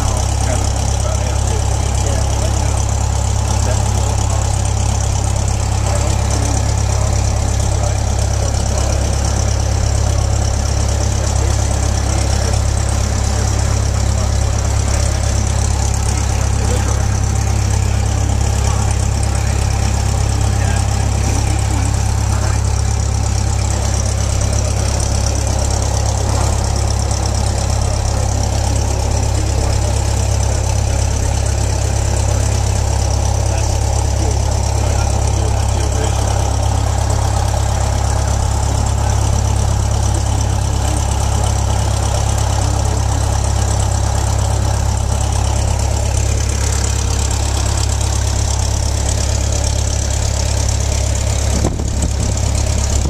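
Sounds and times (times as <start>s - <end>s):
airplane piston engine droning: 0.0s - 53.0s.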